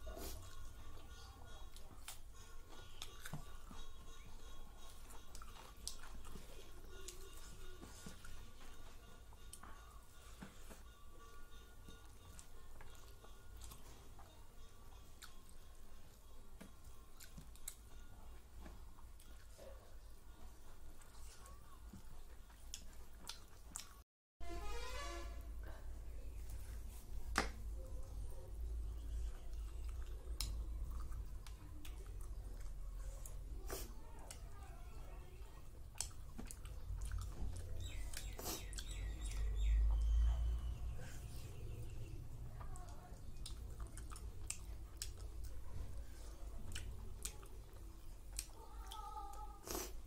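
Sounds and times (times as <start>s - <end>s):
person chewing food: 0.0s - 24.0s, 26.6s - 50.0s.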